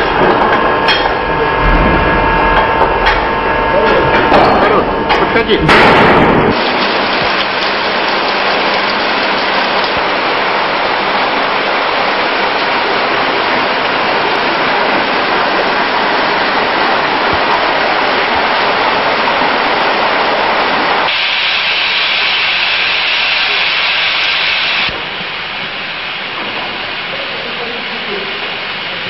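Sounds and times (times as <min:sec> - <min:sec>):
loud steady hiss: 0:05.3 - 0:29.0.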